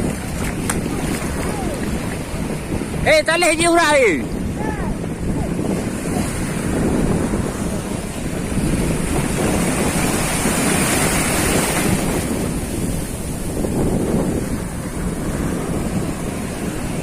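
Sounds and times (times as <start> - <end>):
strong wind buffeting microphone: 0.0 - 17.0
waves washing: 0.0 - 17.0.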